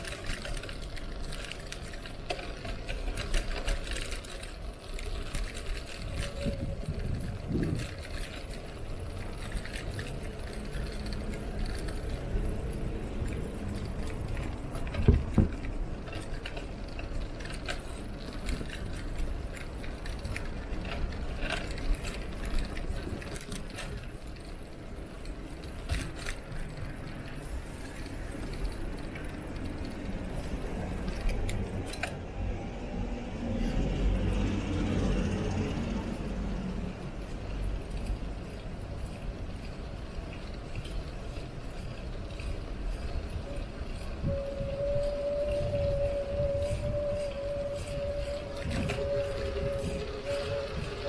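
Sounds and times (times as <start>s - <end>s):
bike clicks and rattles: 0.0s - 51.0s
bike tyres and wind rumble: 0.0s - 51.0s.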